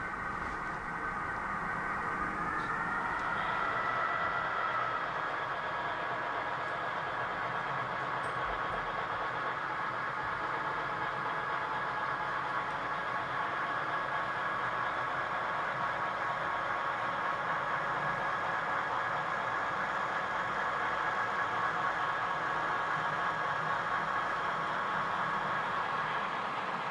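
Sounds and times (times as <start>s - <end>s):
model train motors and wheels: 0.0s - 26.9s.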